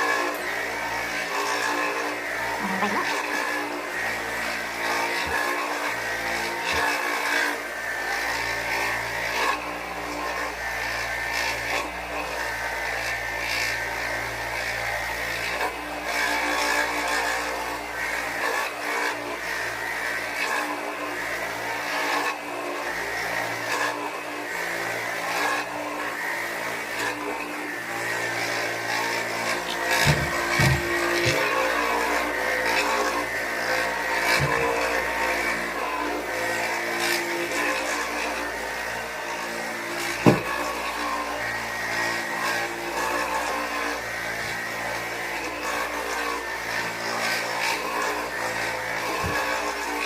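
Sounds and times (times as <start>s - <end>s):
carpet cleaning machine motor running: 0.0s - 50.0s.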